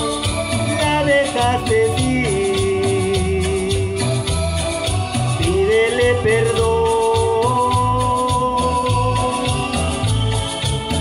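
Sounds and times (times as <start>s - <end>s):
pulsing bass line: 0.0s - 11.0s.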